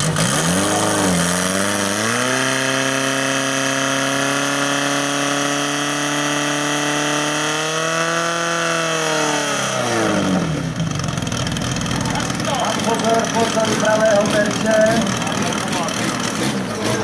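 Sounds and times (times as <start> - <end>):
pump engine revving: 0.0 - 17.0.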